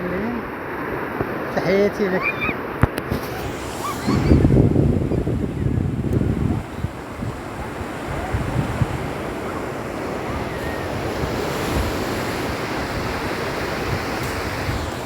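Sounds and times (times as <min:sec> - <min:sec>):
sea surf washing onto beach: 0:00.0 - 0:15.0
wind buffeting microphone: 0:00.8 - 0:15.0.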